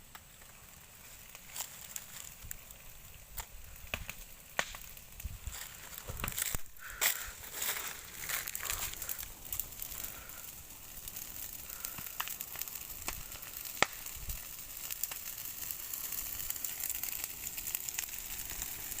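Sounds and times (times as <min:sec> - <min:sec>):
fire crackling and hissing: 0:00.0 - 0:19.0
fire pops: 0:00.0 - 0:19.0.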